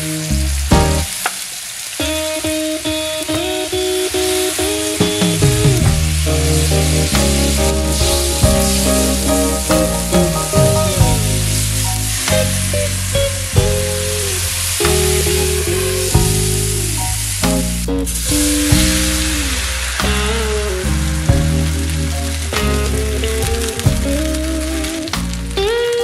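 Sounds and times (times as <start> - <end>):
background music with bass: 0.0 - 1.2, 5.0 - 26.0
food sizzling in a wok: 0.0 - 26.0.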